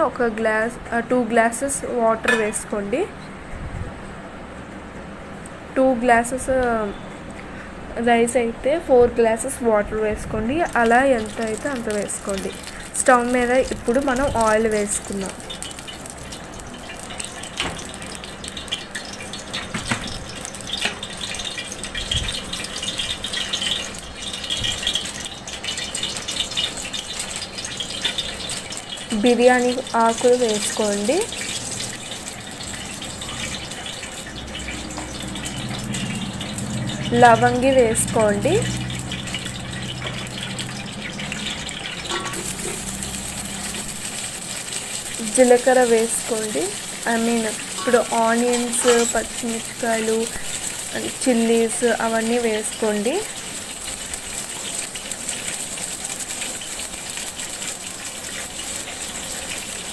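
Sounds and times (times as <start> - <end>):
hot oil crackling and spitting: 9.3 - 59.9.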